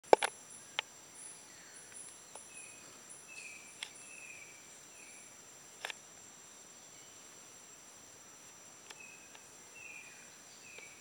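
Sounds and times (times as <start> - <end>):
insects buzzing high-pitched: 0.0 - 11.0.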